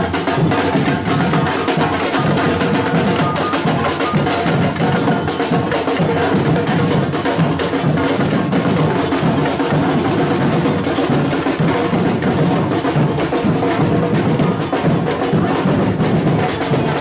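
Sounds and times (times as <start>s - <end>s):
drum line playing: 0.0s - 17.0s.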